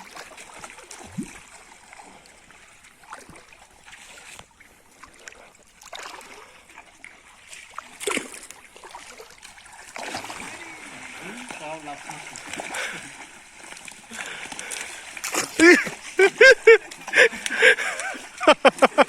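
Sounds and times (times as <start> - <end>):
water splashing around people wading: 0.0 - 19.0.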